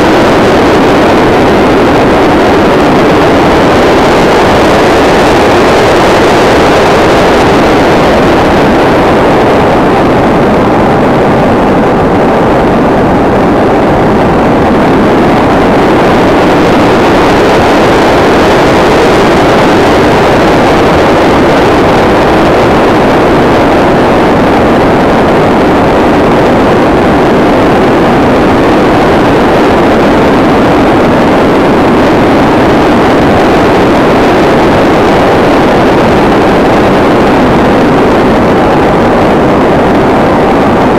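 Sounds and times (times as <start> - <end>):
rush of air in flight: 0.0 - 40.9.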